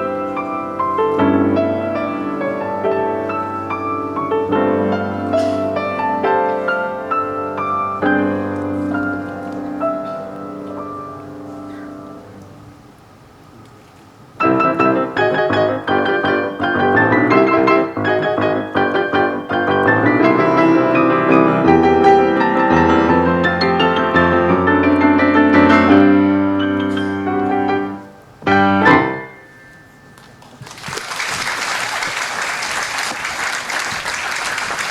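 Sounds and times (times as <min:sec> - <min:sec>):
small ensemble with piano: 0:00.0 - 0:34.9.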